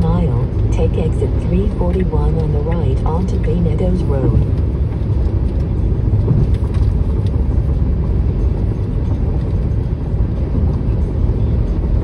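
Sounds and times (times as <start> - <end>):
tyre and road rumble in car cabin: 0.0 - 12.0.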